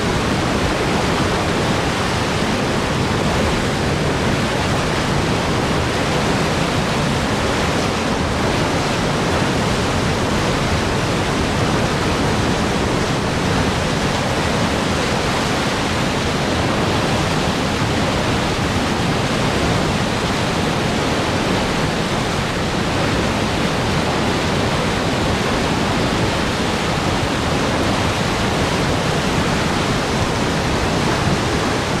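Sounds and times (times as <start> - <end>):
rushing water roar: 0.0 - 32.0.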